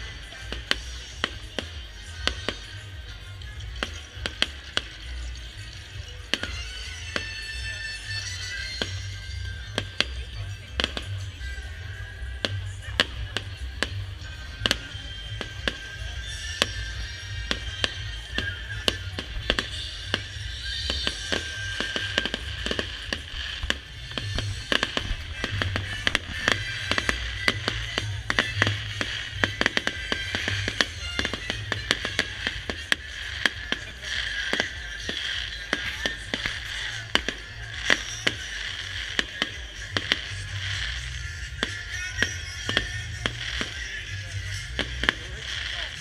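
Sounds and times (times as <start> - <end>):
fireworks banging and crackling: 0.0 - 46.0
music playing: 0.0 - 46.0.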